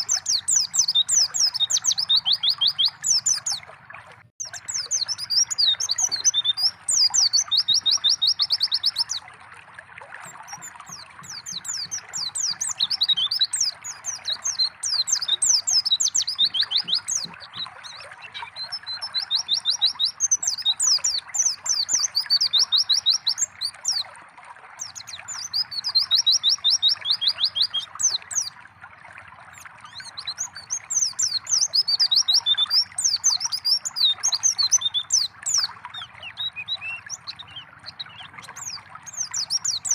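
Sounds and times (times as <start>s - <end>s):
bird chirps and trills: 0.0s - 3.7s, 4.4s - 9.3s, 10.2s - 24.1s, 24.8s - 28.6s, 29.5s - 39.9s
trickle of running water: 0.0s - 39.9s.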